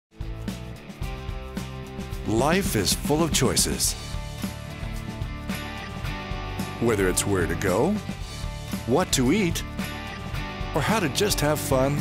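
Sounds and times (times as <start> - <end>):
instrumental music with held chords: 0.2 - 12.0.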